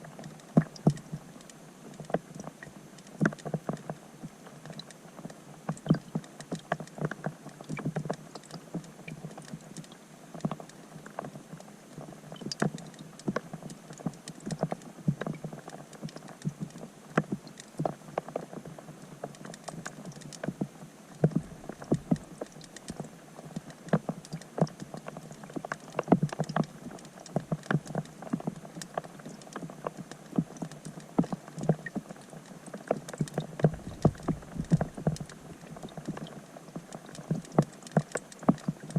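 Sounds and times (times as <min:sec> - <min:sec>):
raindrops on water heard underwater: 0:00.0 - 0:38.9.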